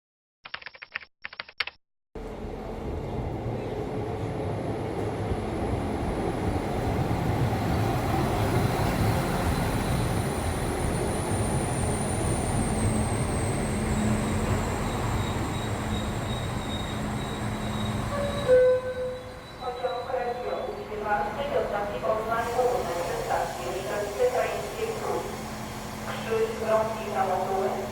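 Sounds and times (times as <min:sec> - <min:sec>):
high whine of train: 0:02.2 - 0:27.9
train rolling rumble: 0:02.2 - 0:27.9.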